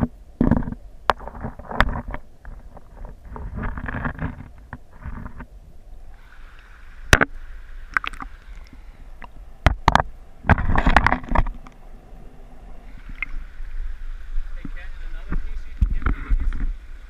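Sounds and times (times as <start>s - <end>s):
flowing water with gurgling: 0.0s - 17.0s.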